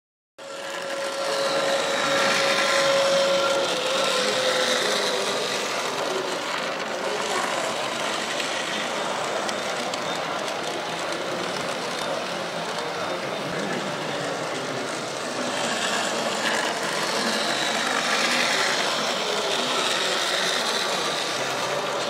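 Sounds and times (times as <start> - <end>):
background chatter: 0.4 - 22.0
model train motors whining: 0.4 - 22.0.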